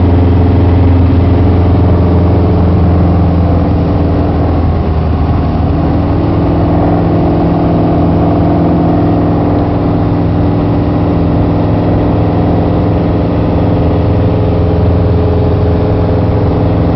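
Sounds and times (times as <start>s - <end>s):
airplane engine drone in cabin: 0.0s - 16.9s.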